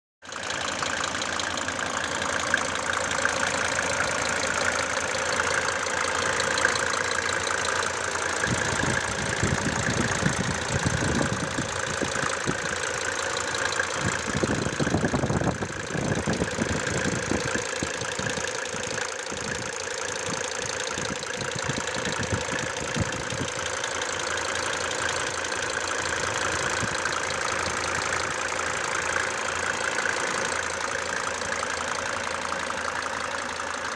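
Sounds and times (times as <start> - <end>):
diesel engine idling with knocking: 0.2 - 33.9.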